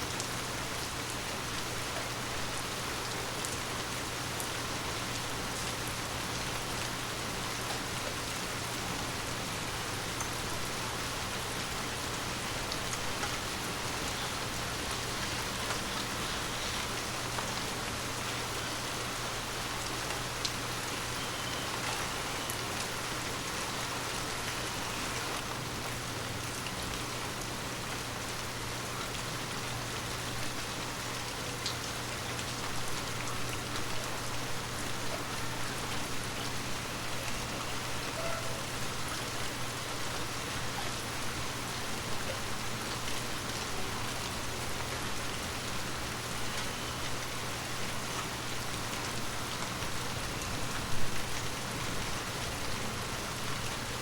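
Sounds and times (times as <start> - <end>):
rain hissing on leaves: 0.0 - 54.0.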